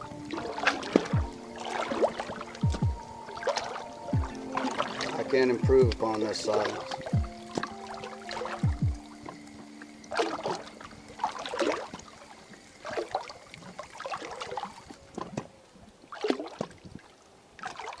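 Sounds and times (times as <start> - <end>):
small waves lapping against a boat: 0.0 - 18.0.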